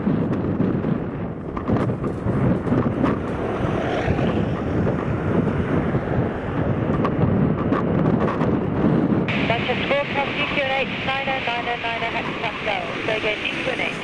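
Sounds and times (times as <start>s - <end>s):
jet engine noise: 0.0s - 14.0s
wind buffeting microphone: 0.0s - 14.0s.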